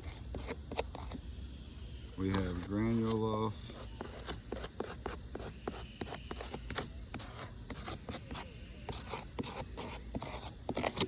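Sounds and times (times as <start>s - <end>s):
gritty scraping of shingles: 0.0s - 1.2s, 2.2s - 11.0s.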